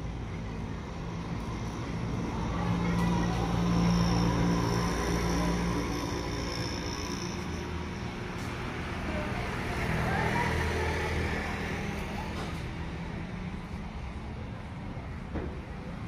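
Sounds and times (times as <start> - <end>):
vehicle engines humming: 0.0 - 16.0.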